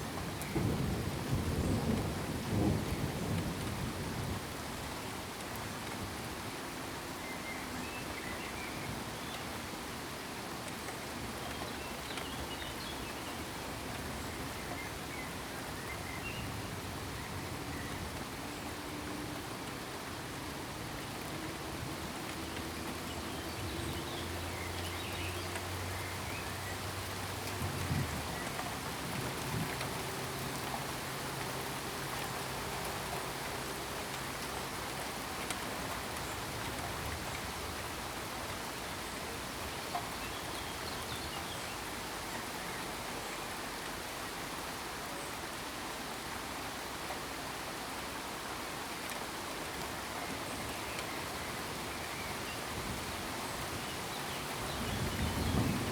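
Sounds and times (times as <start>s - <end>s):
rain pattering: 0.0s - 55.9s.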